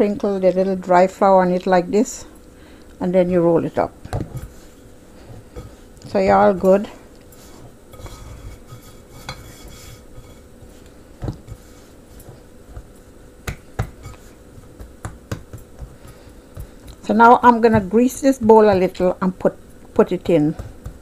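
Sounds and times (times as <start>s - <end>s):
hands kneading dough: 3.2s - 21.0s.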